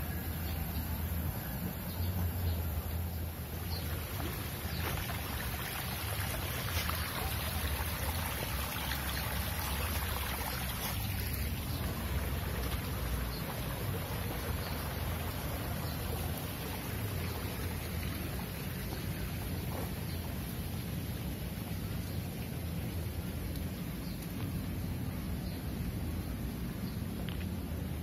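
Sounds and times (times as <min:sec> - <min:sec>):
hot spring water rushing: 0:00.0 - 0:28.0.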